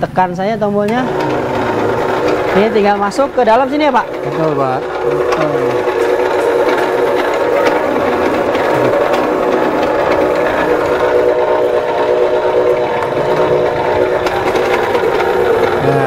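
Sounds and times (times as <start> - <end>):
noodle machine motor hum: 0.0 - 16.0.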